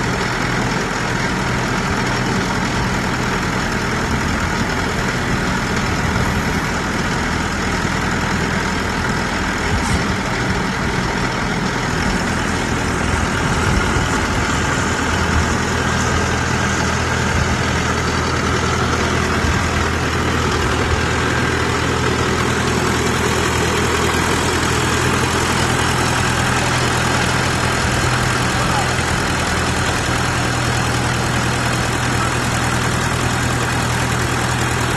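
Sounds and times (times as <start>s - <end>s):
drilling rig engine running: 0.0s - 34.9s.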